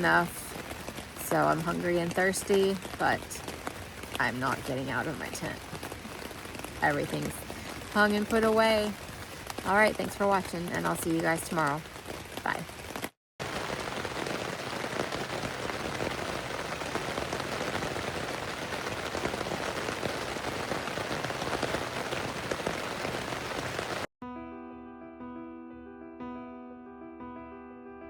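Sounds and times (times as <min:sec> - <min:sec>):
rain on a tent: 0:00.0 - 0:24.1.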